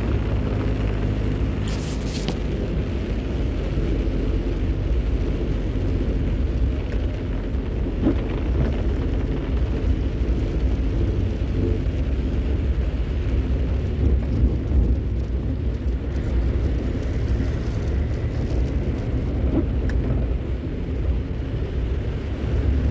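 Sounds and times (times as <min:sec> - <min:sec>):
vehicle engine and tyres rumbling: 0:00.0 - 0:22.9.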